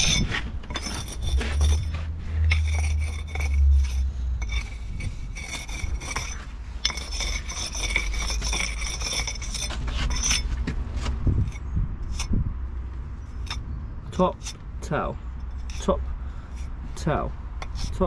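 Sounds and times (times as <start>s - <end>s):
jointing iron scraping mortar: 0.0s - 12.4s, 13.2s - 18.0s.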